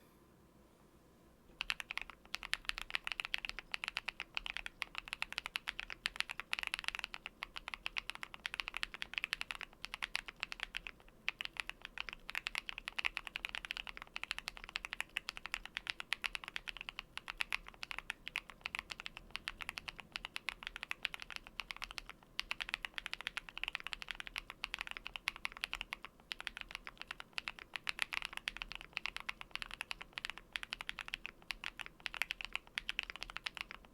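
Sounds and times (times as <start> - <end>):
mechanical keyboard typing: 1.6 - 33.9.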